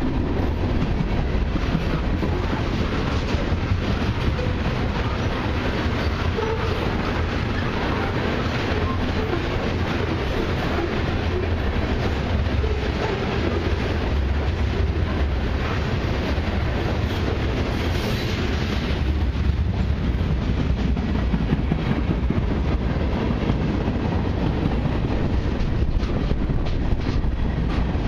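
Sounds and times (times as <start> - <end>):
steel wheels rumbling on rails: 0.0 - 28.0.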